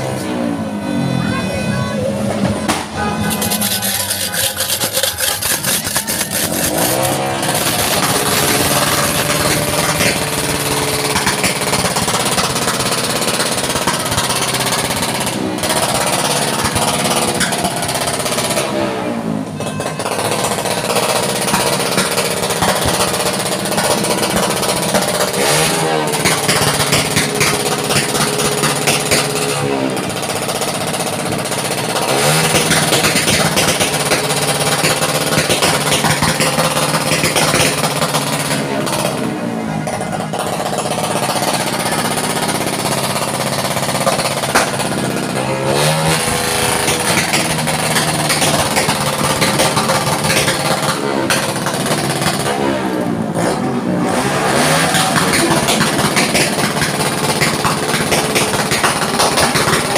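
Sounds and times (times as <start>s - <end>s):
firecrackers crackling: 1.8s - 59.9s.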